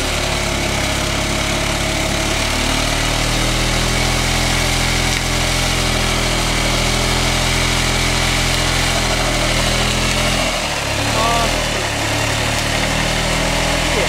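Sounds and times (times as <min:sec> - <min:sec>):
scooter engine running: 0:00.0 - 0:14.0
tyre spinning in burnout: 0:00.0 - 0:14.0.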